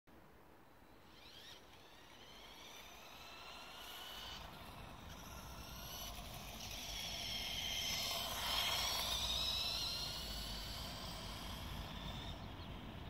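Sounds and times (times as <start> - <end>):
toy motorcycle motor whining: 1.1 - 13.0.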